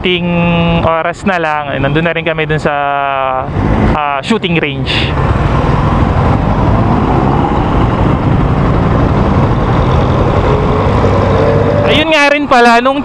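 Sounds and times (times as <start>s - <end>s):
traffic passing: 0.8s - 13.0s.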